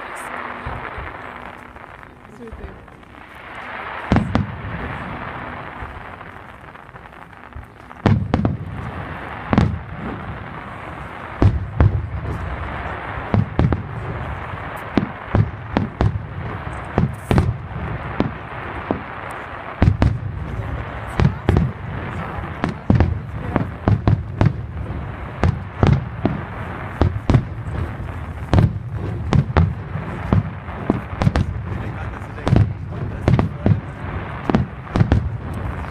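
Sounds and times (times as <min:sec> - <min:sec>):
continuous hiss: 0:00.0 - 0:35.9
fireworks bangs and crackles: 0:00.0 - 0:35.9.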